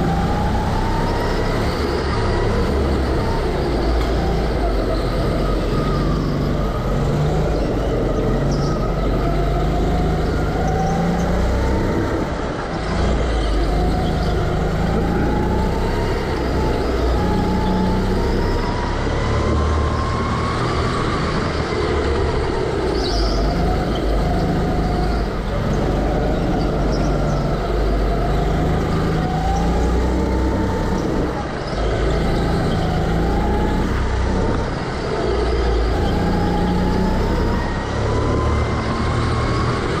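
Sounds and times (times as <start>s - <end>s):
go-kart motor revving: 0.0s - 40.0s.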